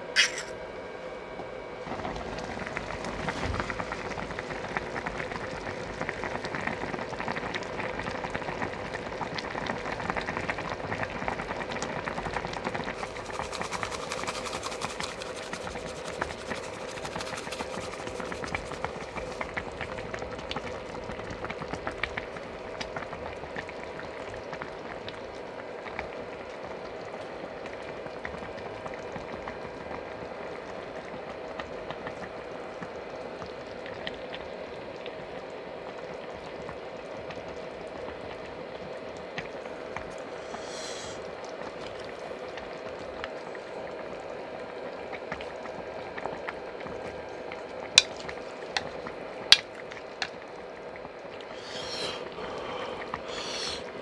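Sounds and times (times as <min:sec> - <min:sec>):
soup bubbling at a boil: 0:01.4 - 0:54.0.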